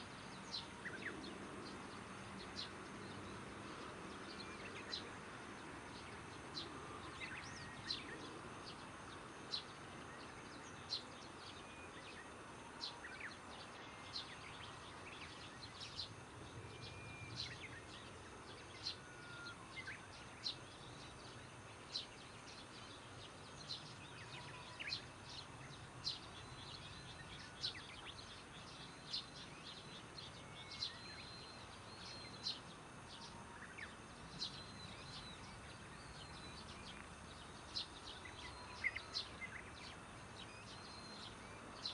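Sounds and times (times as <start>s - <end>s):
insects: 0.0s - 41.9s.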